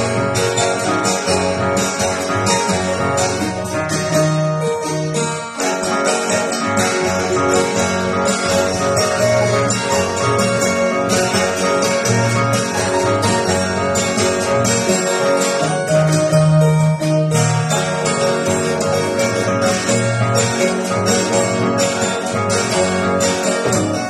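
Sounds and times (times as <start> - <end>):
acoustic guitar playing: 0.0 - 24.0
harp playing: 0.0 - 24.0.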